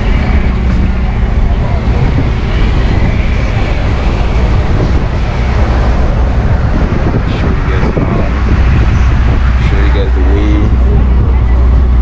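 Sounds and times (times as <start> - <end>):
ferry engine rumbling: 0.0 - 12.0
wind buffeting microphone: 0.0 - 12.0.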